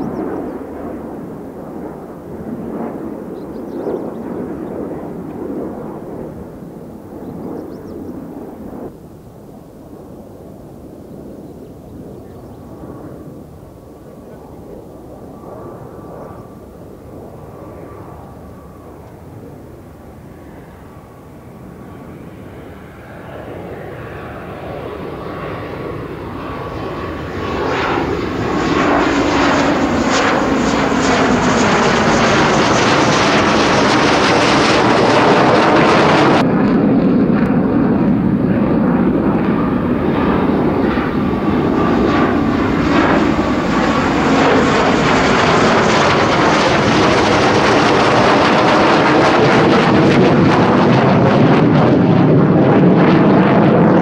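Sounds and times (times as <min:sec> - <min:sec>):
jet engines roaring overhead: 0:00.0 - 0:54.0.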